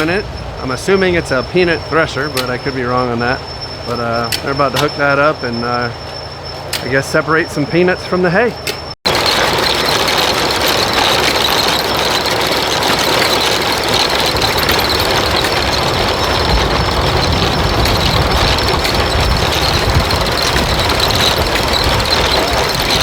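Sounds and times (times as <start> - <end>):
belt-driven thresher running: 0.0 - 23.0
engine running: 0.0 - 23.0.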